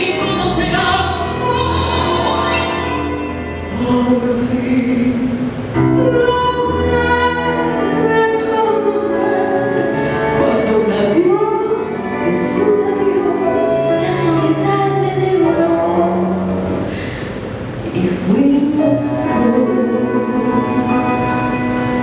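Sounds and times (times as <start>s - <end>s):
instrumental accompaniment: 0.0s - 22.0s
woman singing into microphone: 0.0s - 22.0s.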